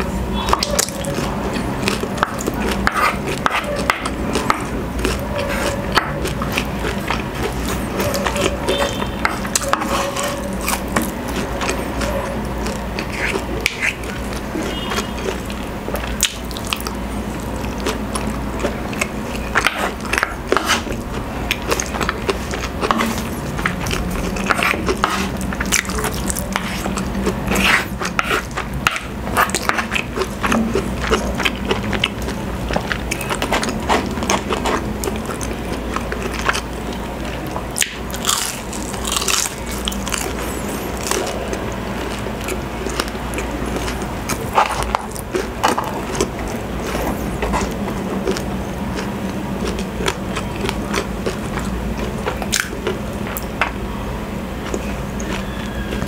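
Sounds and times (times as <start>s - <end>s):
chewing and biting: 0.0s - 53.8s, 54.6s - 56.0s.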